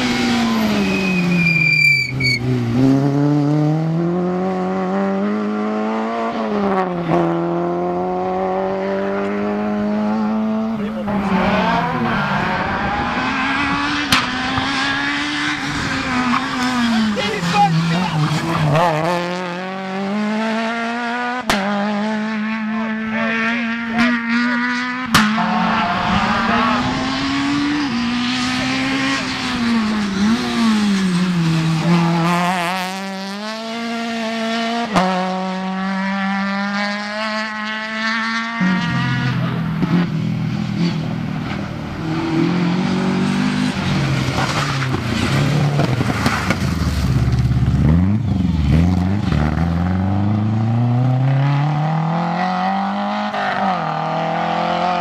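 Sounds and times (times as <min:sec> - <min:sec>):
rally car engines at full throttle: 0:00.0 - 0:55.0.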